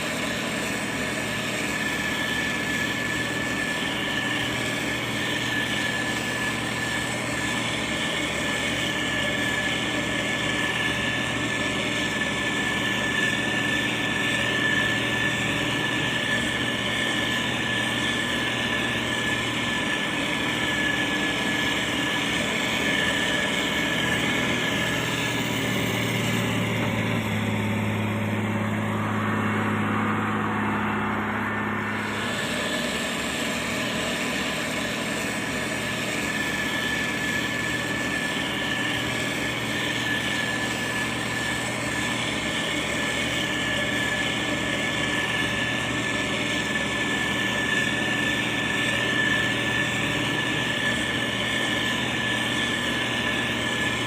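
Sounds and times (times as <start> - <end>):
diesel engine running: 0.0 - 54.0
high whine: 0.0 - 54.0.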